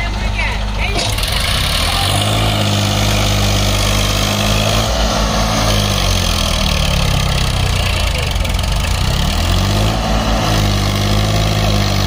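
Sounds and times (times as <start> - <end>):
tractor diesel engine pulling: 0.0 - 12.0.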